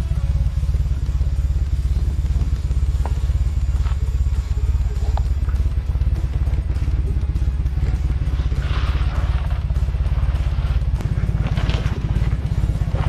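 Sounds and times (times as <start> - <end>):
dune buggy engine rumble: 0.0 - 13.0.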